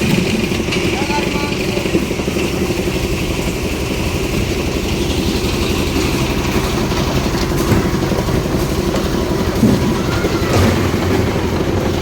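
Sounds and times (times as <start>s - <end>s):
machine engine pulsing: 0.0s - 12.0s.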